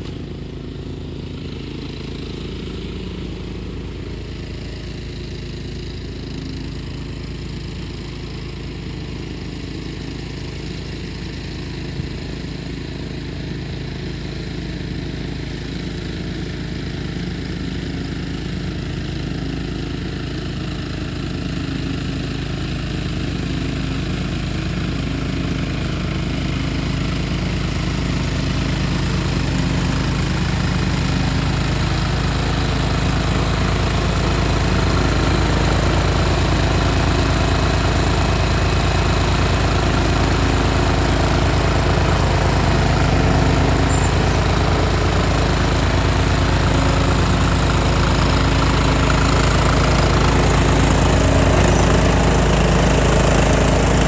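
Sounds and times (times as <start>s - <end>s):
lawn mower engine cutting grass: 0.0s - 54.0s.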